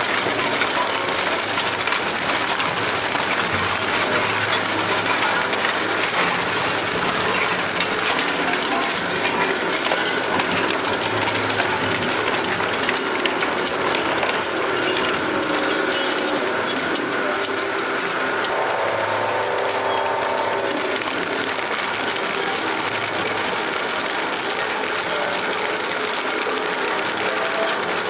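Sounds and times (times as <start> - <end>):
shredder grinding scrap metal: 0.0 - 28.0.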